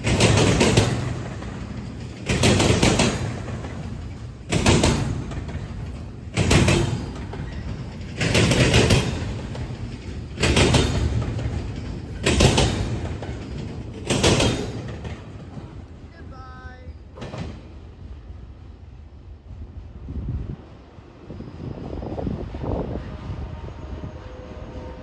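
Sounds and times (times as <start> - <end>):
train wheels clattering on track: 0.0 - 16.3, 16.9 - 25.0.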